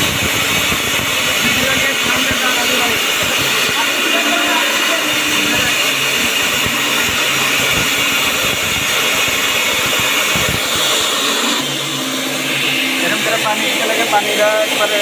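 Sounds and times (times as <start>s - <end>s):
core drill boring into concrete: 0.0s - 15.0s.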